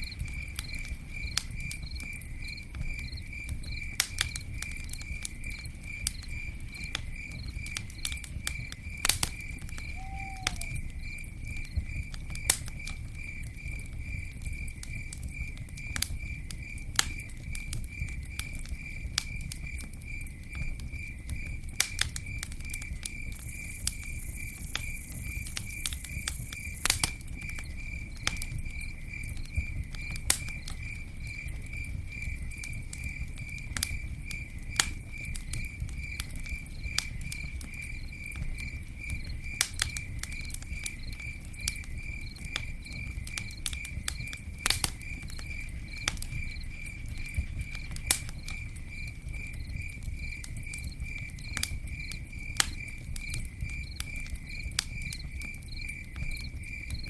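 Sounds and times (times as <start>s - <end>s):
campfire crackling: 0.0s - 57.0s
cricket chirping: 0.0s - 57.0s.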